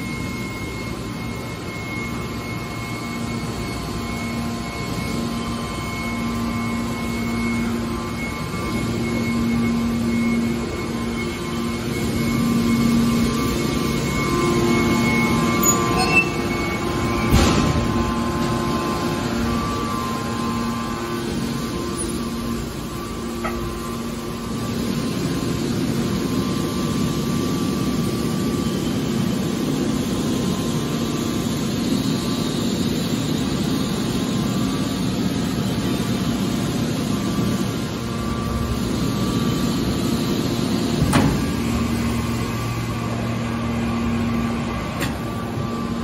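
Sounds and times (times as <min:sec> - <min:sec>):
hydraulic machine humming drone: 0:00.0 - 0:46.0.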